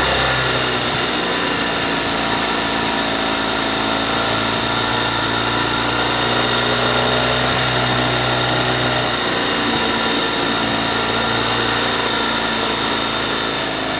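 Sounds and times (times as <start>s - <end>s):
outboard motor running: 0.0s - 13.9s.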